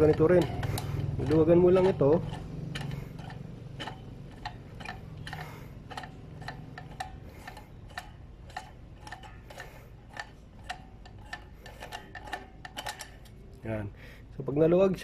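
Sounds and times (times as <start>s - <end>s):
hand tool clicking on nut: 0.0s - 13.4s.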